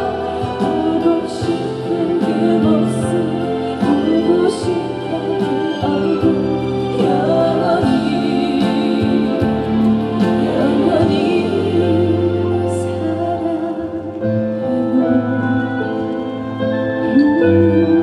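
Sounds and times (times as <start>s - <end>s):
live band playing slow ballad: 0.0s - 18.0s
person singing: 0.0s - 18.0s.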